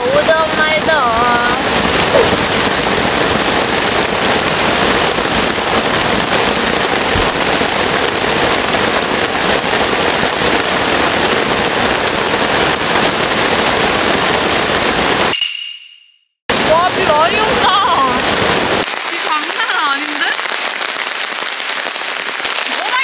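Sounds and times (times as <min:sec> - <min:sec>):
heavy rain pouring: 0:00.0 - 0:15.3, 0:16.5 - 0:23.0.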